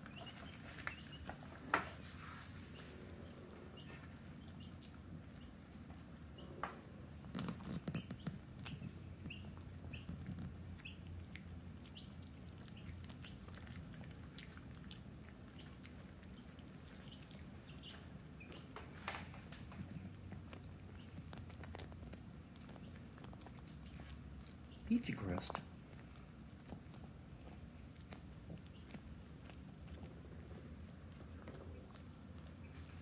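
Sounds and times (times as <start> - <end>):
dogs chewing crust: 0.0 - 33.0.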